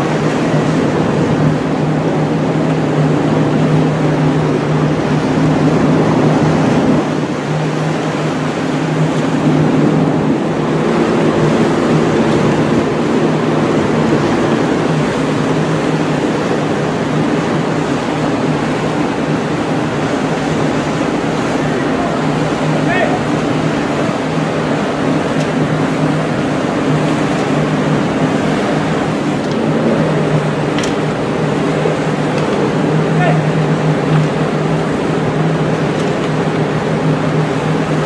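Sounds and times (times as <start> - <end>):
ship machinery hum: 0.0 - 38.0
wind and sea rushing: 0.0 - 38.0.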